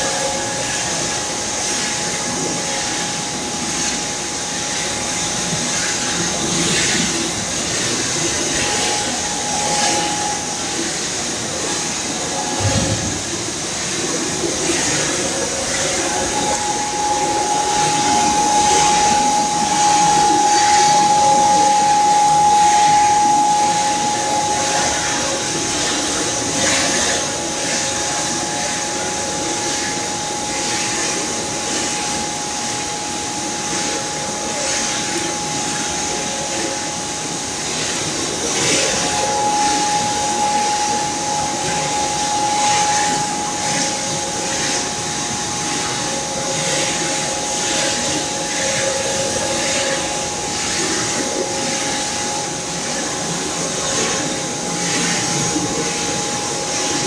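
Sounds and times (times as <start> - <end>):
constant hiss: 0.0 - 57.0
high whine: 0.0 - 57.0
loud machine noise: 0.0 - 57.0.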